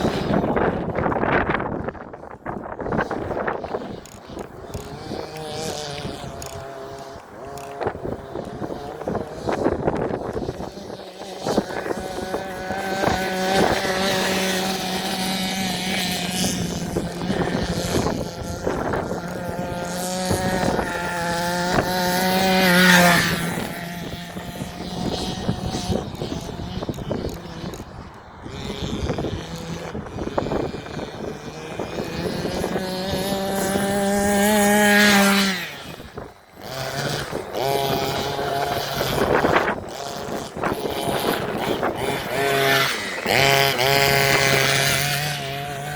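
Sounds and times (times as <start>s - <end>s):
small two-stroke engine buzzing: 0.0s - 45.9s.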